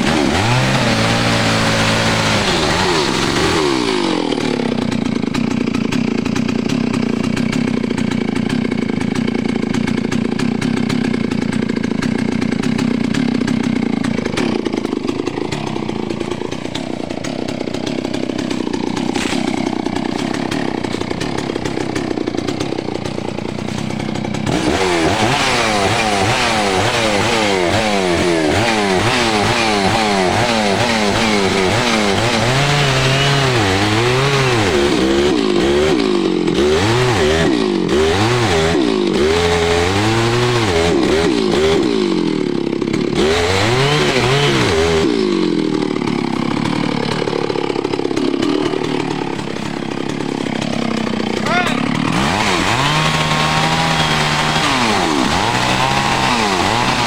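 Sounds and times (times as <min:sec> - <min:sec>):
chainsaw cutting into tree trunk: 0:00.0 - 0:57.0.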